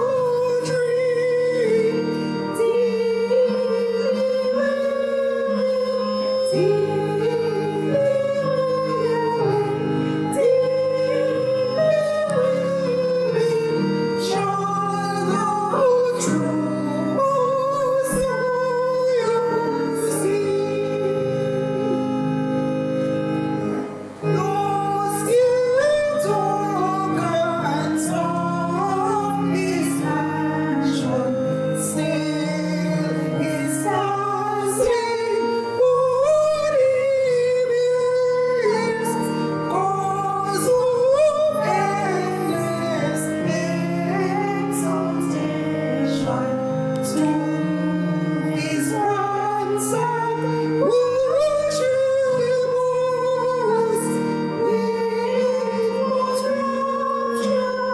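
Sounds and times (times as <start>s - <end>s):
woman singing slow melody: 0.0s - 22.7s, 24.2s - 57.9s
sustained accompaniment chords: 0.0s - 57.9s.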